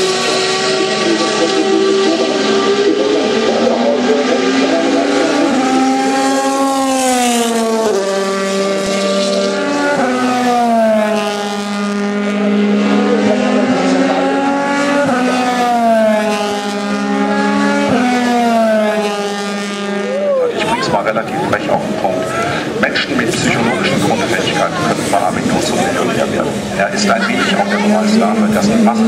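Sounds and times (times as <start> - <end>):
racing car engines at high revs: 0.0 - 29.0.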